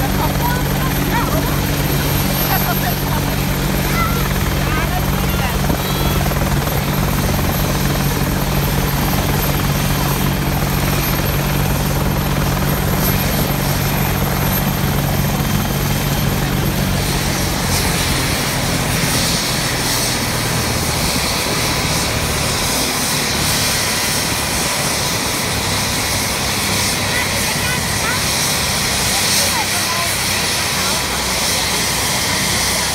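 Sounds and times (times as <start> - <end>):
helicopter rotor drone: 0.0 - 32.9.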